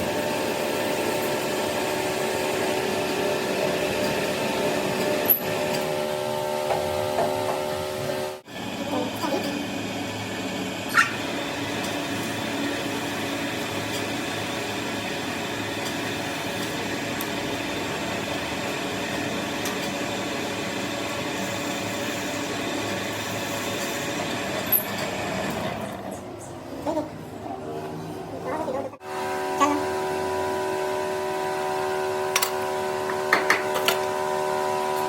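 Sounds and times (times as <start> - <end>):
workshop machine humming: 0.0 - 35.0.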